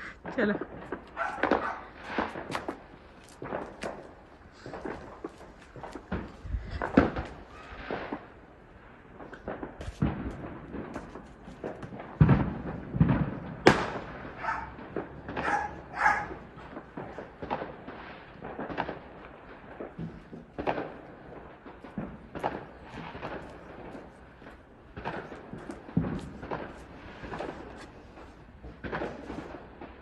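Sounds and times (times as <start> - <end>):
firecrackers banging and crackling: 0.0 - 30.0.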